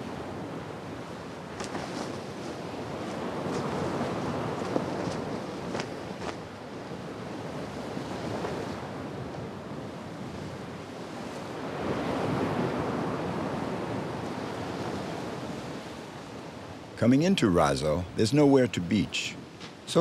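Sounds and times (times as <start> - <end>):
sea waves washing: 0.0 - 20.0
wind: 0.0 - 20.0.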